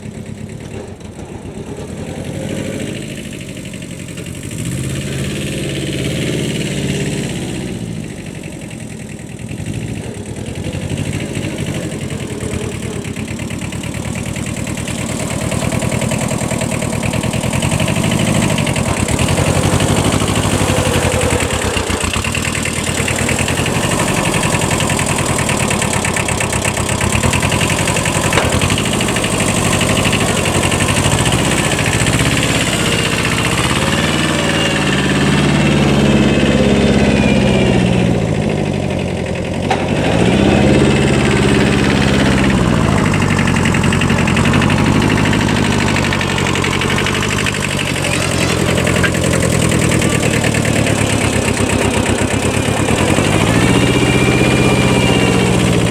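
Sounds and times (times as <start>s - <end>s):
tractor diesel engine revving: 0.0s - 55.9s.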